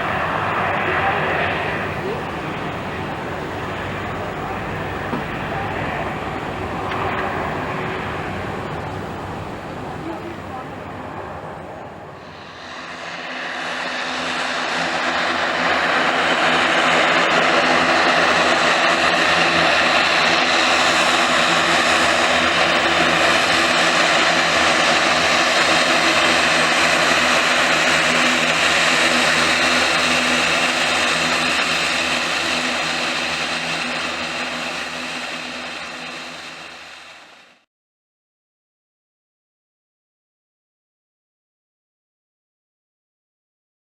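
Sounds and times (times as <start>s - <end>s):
turboprop airliner landing: 0.0s - 37.7s.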